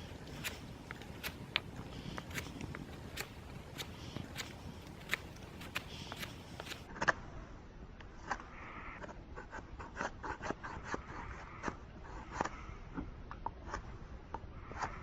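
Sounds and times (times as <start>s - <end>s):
knife shaving wooden stick: 0.0s - 7.1s, 8.1s - 14.0s.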